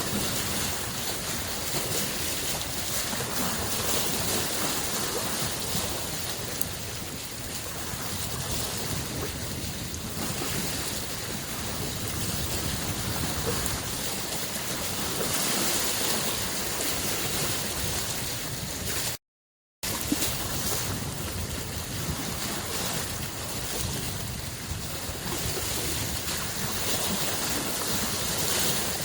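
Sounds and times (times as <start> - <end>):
lake waves washing against shore: 0.0 - 19.2, 19.8 - 29.0.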